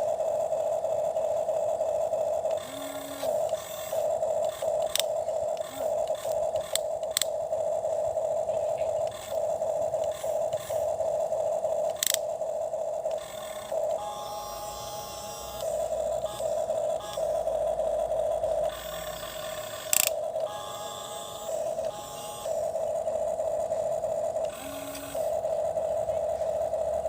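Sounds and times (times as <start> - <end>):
toy electric motor whining: 0.0 - 27.0
toy arm clicks: 0.6 - 27.0.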